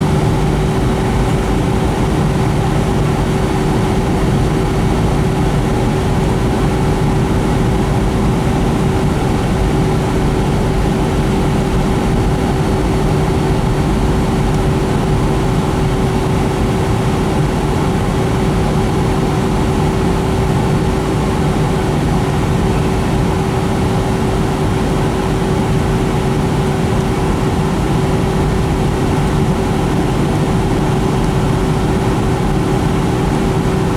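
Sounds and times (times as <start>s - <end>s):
airplane cabin engine drone: 0.0s - 33.9s
constant hum: 0.0s - 33.9s.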